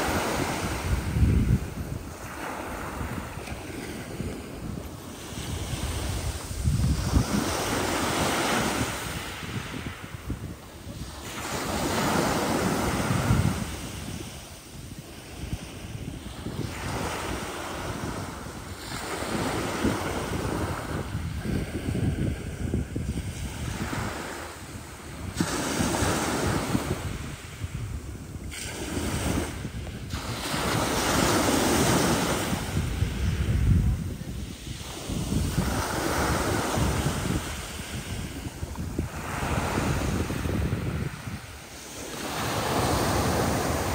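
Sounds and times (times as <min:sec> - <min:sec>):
sea waves breaking: 0:00.0 - 0:43.9
wind buffeting microphone: 0:00.0 - 0:43.9.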